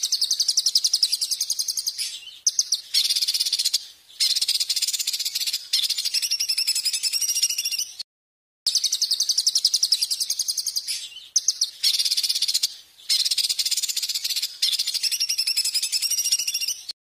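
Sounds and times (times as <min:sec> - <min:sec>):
songbird shrill rapid trills: 0:00.0 - 0:08.0, 0:08.7 - 0:17.0.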